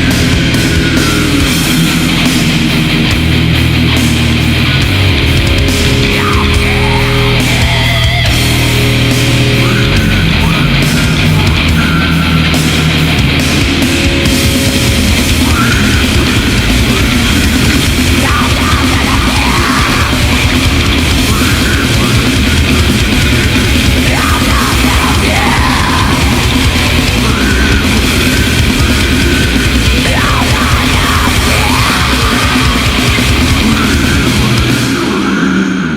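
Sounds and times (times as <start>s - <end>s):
extreme metal music: 0.0s - 35.9s
harsh yelled vocals: 0.0s - 35.9s.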